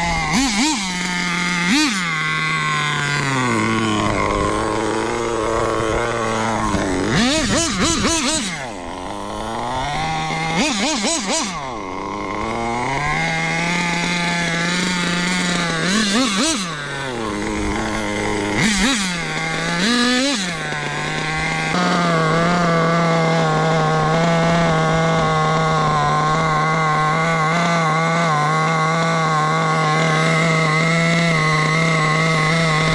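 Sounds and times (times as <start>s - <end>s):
model car engine revving: 0.0s - 32.9s.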